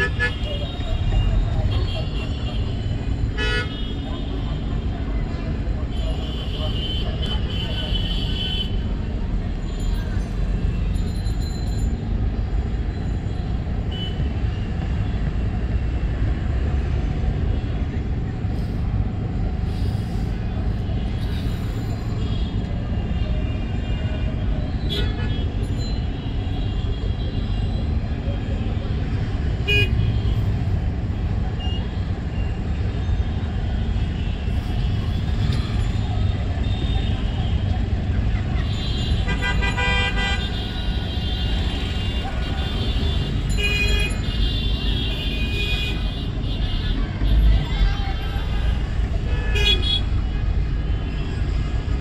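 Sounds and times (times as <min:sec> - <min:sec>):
road vehicle rumble: 0:00.0 - 0:52.0.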